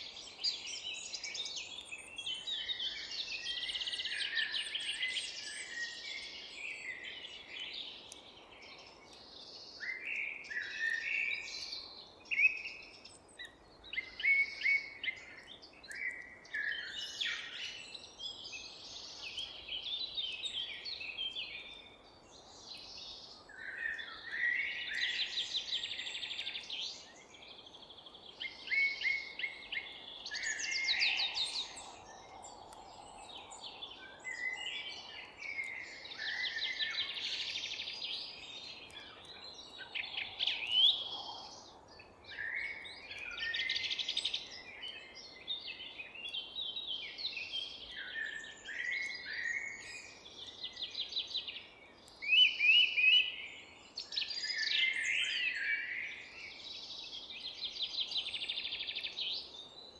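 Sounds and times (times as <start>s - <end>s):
songbirds singing and trilling: 0.0s - 59.9s.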